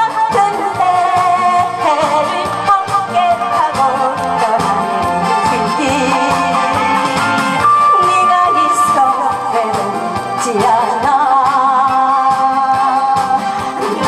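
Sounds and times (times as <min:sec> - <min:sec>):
instrumental accompaniment with beat: 0:00.0 - 0:14.0
person singing into microphone: 0:00.0 - 0:14.0.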